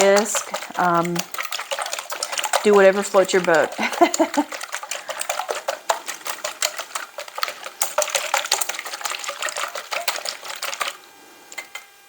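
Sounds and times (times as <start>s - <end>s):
wire whisk beating eggs: 0.0s - 11.7s.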